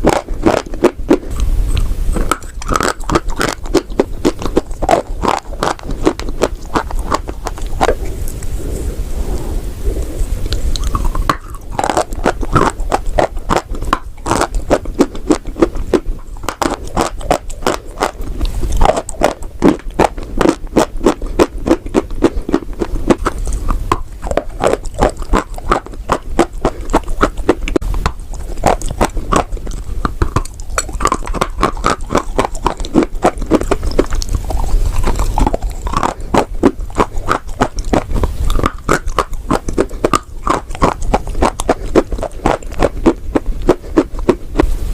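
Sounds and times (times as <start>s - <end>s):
chalk crunching while chewed: 0.0s - 8.5s, 10.4s - 44.7s.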